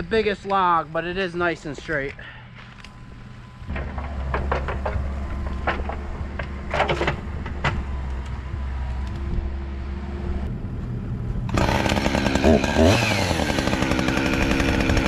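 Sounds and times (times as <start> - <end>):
engine idling: 2.1 - 15.0.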